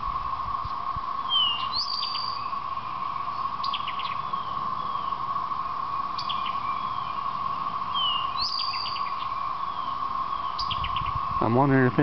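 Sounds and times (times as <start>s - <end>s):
cicadas droning: 0.0s - 12.0s
songbirds chirping: 0.0s - 12.0s.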